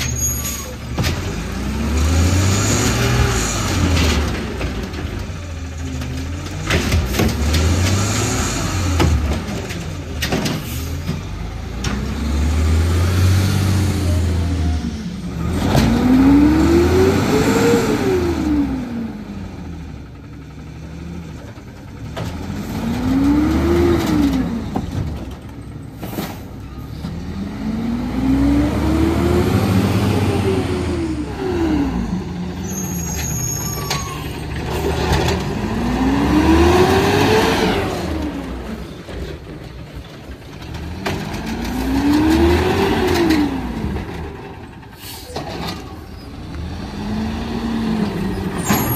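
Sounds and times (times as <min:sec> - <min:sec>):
truck engine revving: 0:00.0 - 0:25.4, 0:27.0 - 0:48.9.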